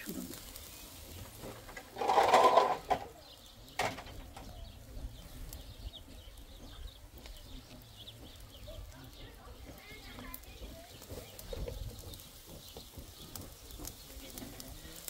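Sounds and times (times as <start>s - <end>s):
high chirping of small birds: 0.0s - 15.0s.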